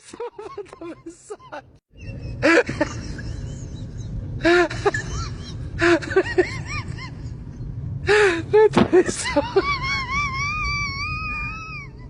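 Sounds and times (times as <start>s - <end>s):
low rumble: 2.0s - 12.0s.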